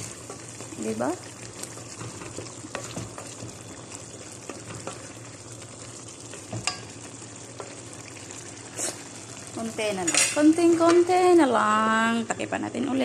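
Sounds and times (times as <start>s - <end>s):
stew simmering with a hiss: 0.0s - 12.4s.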